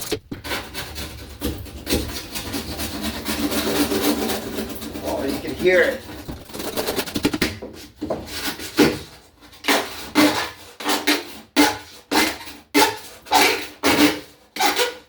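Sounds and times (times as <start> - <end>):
razor blade scraping shower surface: 0.0 - 15.0.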